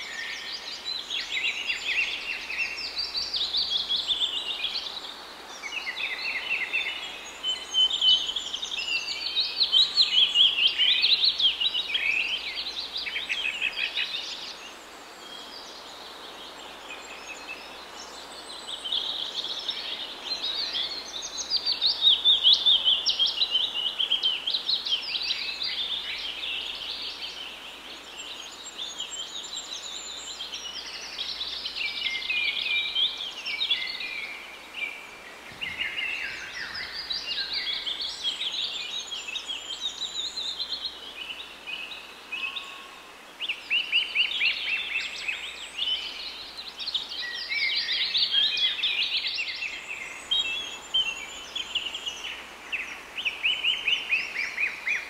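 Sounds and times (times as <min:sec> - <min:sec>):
faint outdoor hiss: 0:00.0 - 0:55.0
small birds chirping: 0:00.0 - 0:55.0.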